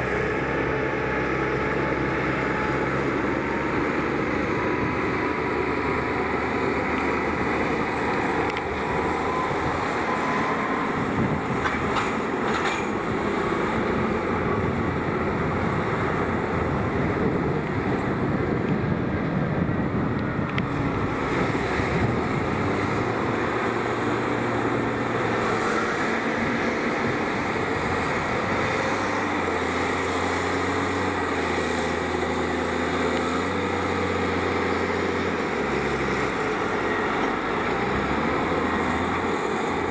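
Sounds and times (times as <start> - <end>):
tractor diesel engines droning: 0.0 - 39.9.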